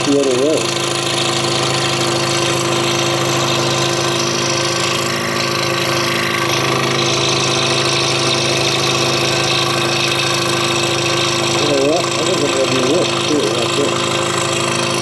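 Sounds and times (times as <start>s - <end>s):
scroll saw cutting wood: 0.0s - 15.0s.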